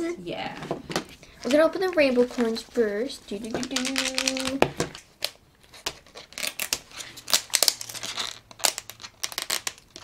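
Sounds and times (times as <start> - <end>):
plastic packaging crinkling: 1.4 - 10.0.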